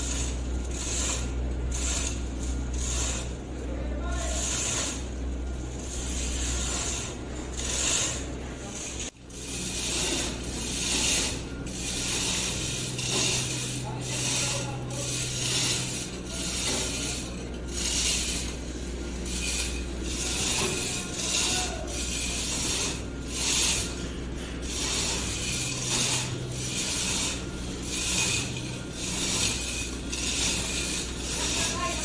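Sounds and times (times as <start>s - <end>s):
low steady hum: 0.0s - 32.0s
metal mechanism ratcheting: 0.0s - 32.0s.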